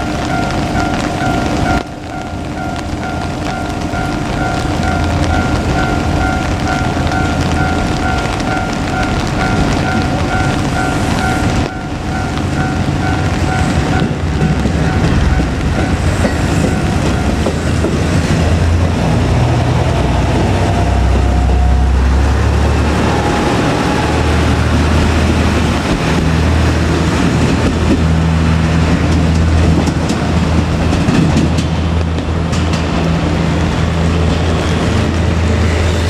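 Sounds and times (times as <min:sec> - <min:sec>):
diesel engine droning: 0:00.0 - 0:36.0
level crossing warning bell: 0:00.0 - 0:36.0
train wheels clicking over rail joints: 0:00.0 - 0:36.0.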